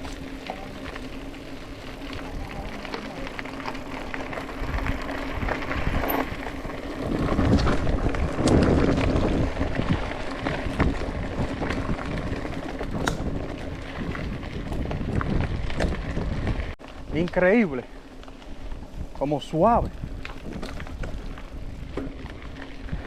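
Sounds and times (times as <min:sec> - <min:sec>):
wind buffeting microphone: 0:00.0 - 0:17.2, 0:18.6 - 0:23.0
mountain bike rattling on trail: 0:00.0 - 0:23.0.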